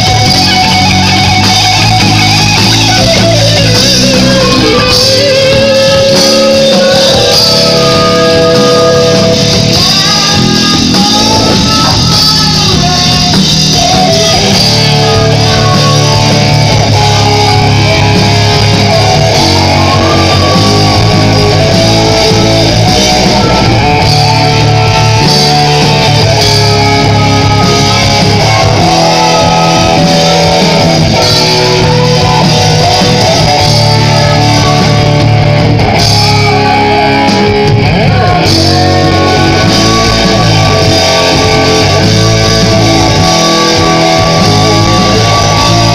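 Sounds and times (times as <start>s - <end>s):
guitar music: 0.0s - 45.9s.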